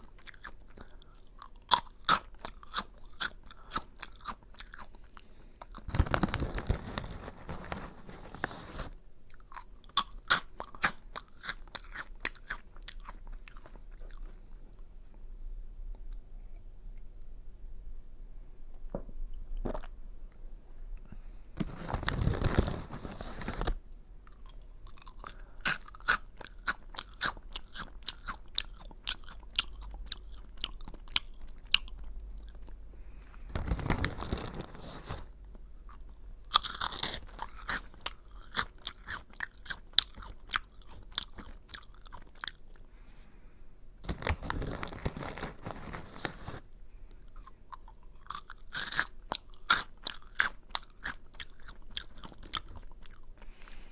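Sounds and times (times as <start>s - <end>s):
crunching rice crackers: 0.0s - 14.5s, 21.6s - 42.8s, 44.0s - 53.6s.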